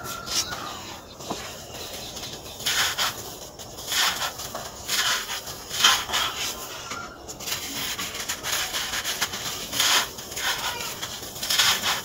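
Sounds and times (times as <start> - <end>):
dry cement mix crunching: 0.0 - 12.0
sand trickling hiss: 0.0 - 12.0.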